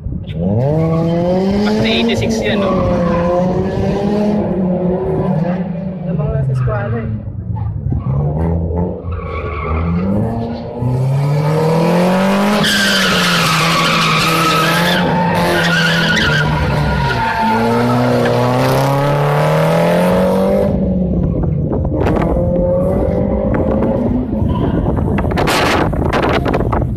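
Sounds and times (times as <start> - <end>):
race car engine accelerating: 0.4 - 26.8.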